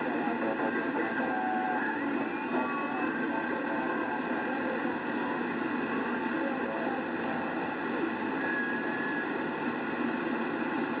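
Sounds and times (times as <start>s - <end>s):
faint unintelligible radio signals: 0.0s - 11.0s
radio static hiss: 0.0s - 11.0s.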